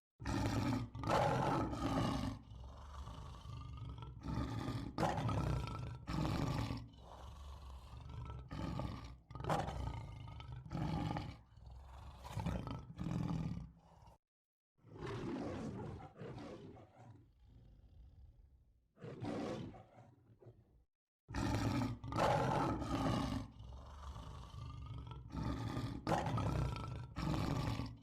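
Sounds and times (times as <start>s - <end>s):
large animal roaring: 0.2s - 14.2s, 14.9s - 20.6s, 21.3s - 28.0s.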